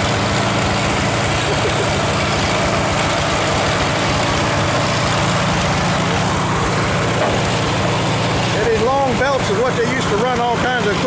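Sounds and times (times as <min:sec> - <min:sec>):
engine humming steadily: 0:00.0 - 0:11.0
mill whirring: 0:00.0 - 0:11.0.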